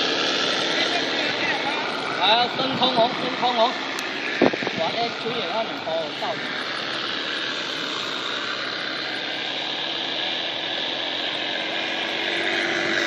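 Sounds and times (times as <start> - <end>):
model airplane engine drone: 0.0 - 13.0.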